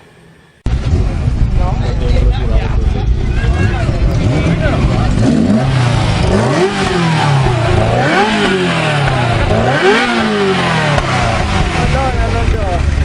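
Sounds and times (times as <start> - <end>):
engine revving: 0.6 - 13.0.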